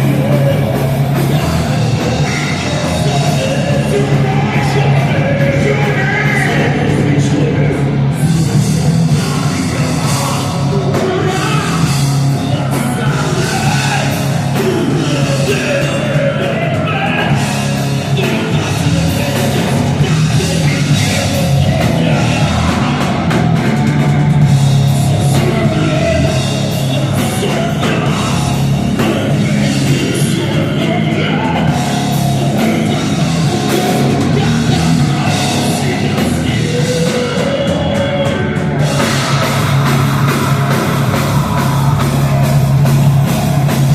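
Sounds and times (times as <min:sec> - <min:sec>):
person singing: 0:00.0 - 0:23.8, 0:24.4 - 0:43.9
drum kit: 0:00.0 - 0:43.9
rock band playing live: 0:00.0 - 0:43.9.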